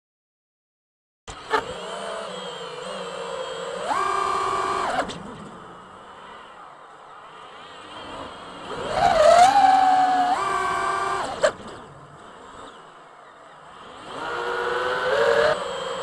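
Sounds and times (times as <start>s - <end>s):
quadcopter motors whining: 1.3s - 16.0s.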